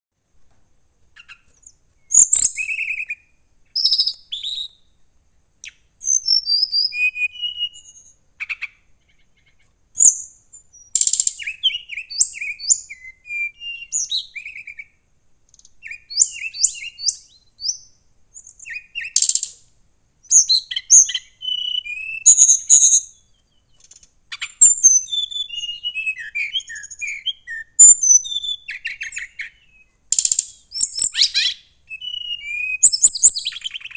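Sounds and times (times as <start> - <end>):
bird singing trills: 1.2 - 5.0, 5.6 - 33.9.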